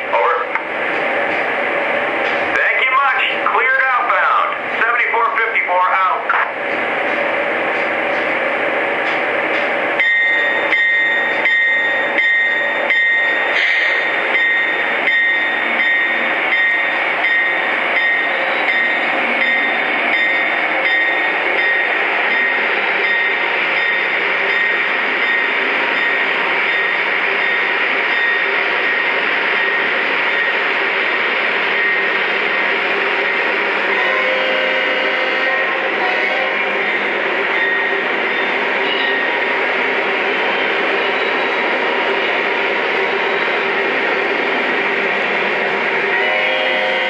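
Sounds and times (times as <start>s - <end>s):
model train rolling on track: 0.0s - 47.0s.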